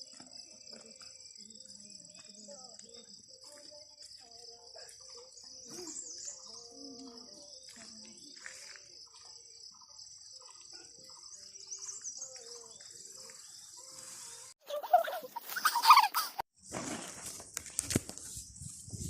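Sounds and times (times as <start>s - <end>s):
high-pitched insect chorus: 0.0s - 16.2s
birds chirping: 0.0s - 16.4s.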